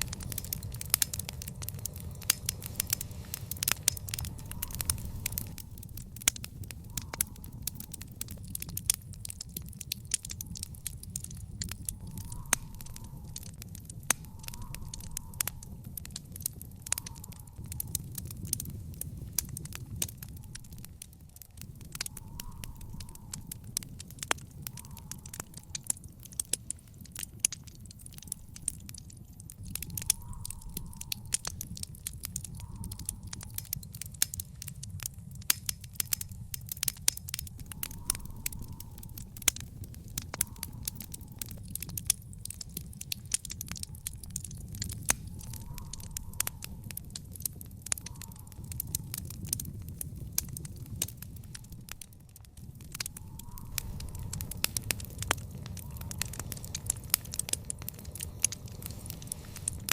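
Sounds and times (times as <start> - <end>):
fire crackling and popping: 0.0 - 59.9
low rumble of fire: 0.0 - 59.9.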